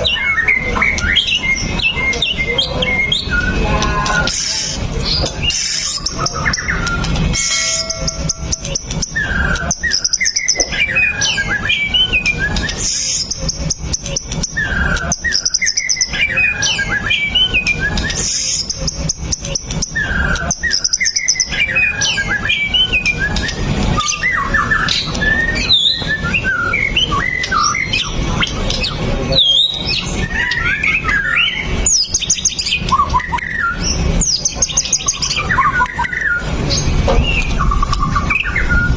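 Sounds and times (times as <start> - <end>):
songbird whistling and trilling: 0.0 - 38.9.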